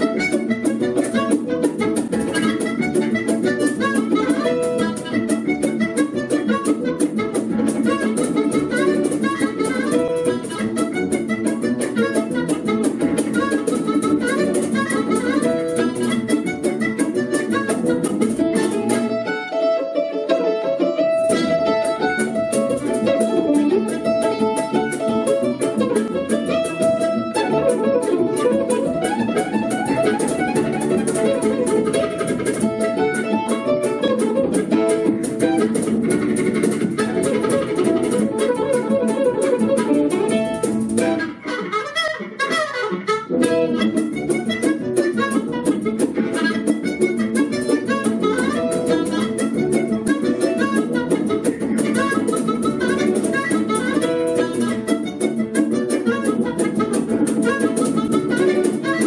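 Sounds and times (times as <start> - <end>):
live band playing: 0.0 - 59.0.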